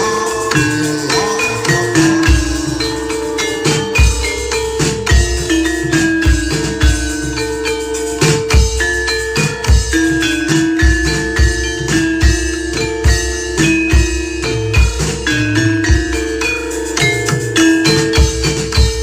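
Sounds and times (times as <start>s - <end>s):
deep drum beats: 0.0s - 19.0s
mallet percussion tones: 0.0s - 19.0s.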